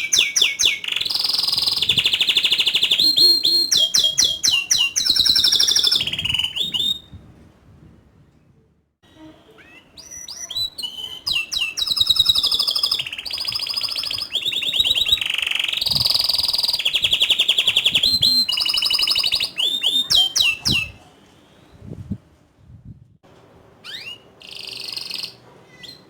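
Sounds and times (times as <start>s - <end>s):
canary singing trills: 0.0s - 7.1s, 9.1s - 21.8s, 23.8s - 26.0s.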